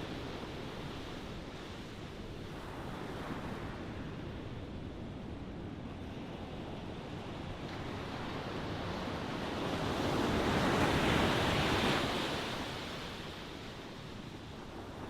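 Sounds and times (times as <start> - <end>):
background surf: 0.0 - 15.0.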